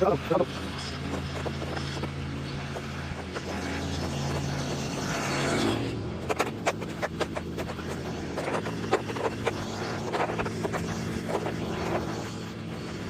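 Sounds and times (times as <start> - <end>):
electric snow shovel motor running: 0.0 - 13.0
sharp scrapes and clicks: 0.0 - 13.0.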